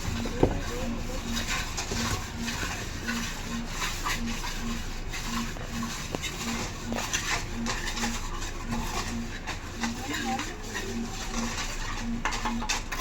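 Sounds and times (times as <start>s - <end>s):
low pulsing tone: 0.0s - 13.0s
trowel scraping on brick: 0.0s - 13.0s.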